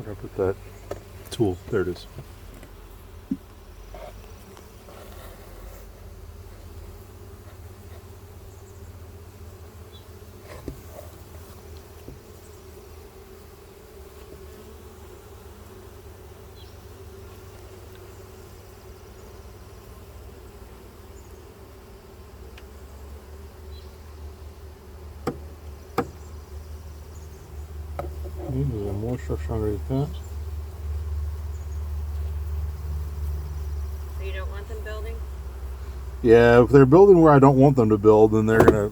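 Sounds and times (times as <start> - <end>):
honeybees buzzing: 0.0 - 38.9.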